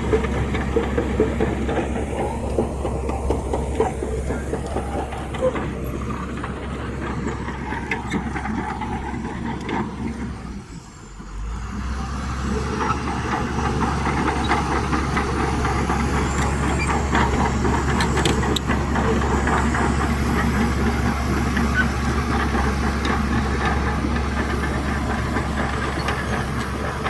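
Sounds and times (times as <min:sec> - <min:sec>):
diesel machinery engine running: 0:00.0 - 0:27.0.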